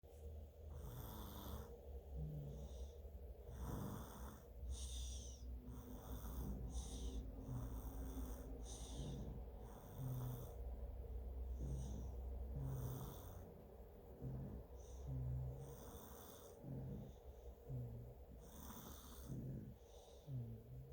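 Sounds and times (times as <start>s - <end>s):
people snoring: 0.7s - 2.9s, 3.5s - 10.7s, 11.4s - 13.5s, 14.2s - 20.9s.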